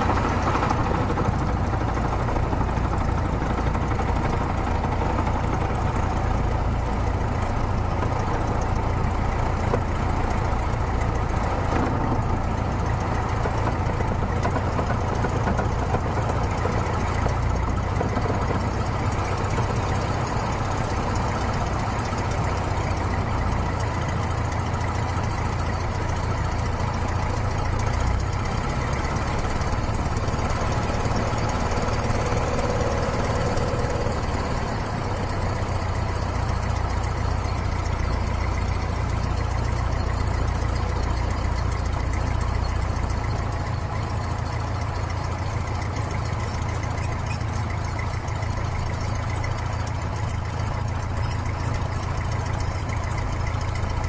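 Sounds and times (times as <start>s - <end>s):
airplane engine idling: 0.0s - 54.0s.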